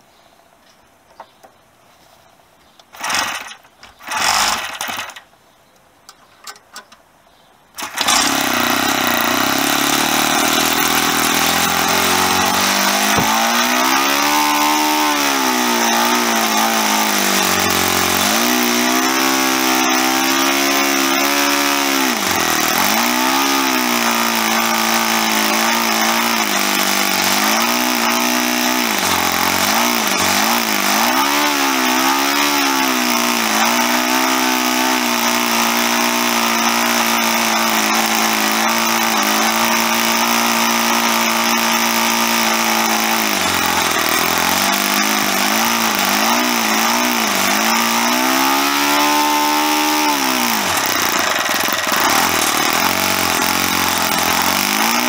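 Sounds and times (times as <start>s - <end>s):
model aero engine running: 7.8s - 55.0s.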